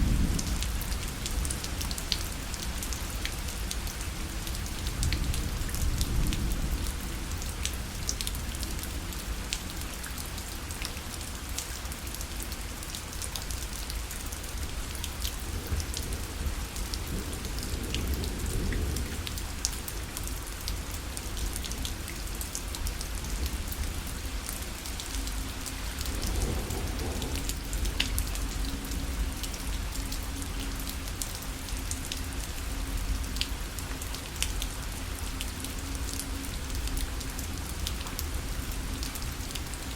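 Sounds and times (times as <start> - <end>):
rain pattering on parasol: 0.0 - 39.9.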